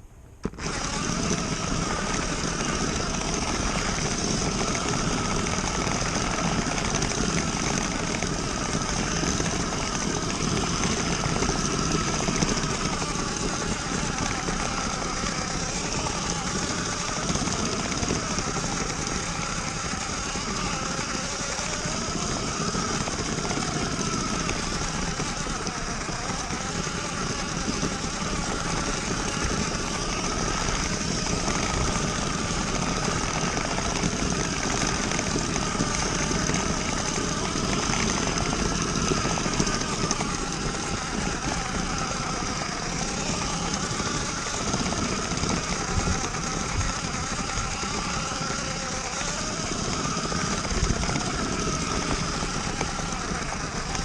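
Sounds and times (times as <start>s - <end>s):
continuous rattle: 0.0s - 54.0s
toy train motor whining: 0.0s - 54.0s.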